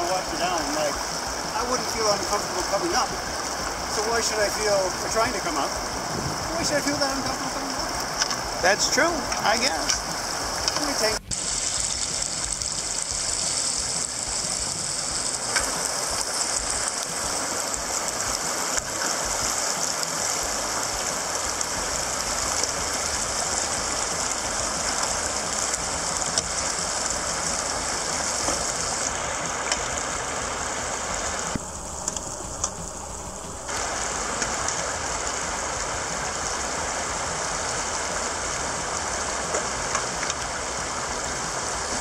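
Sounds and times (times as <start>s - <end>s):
river rapids rushing over rocks: 0.0s - 42.0s.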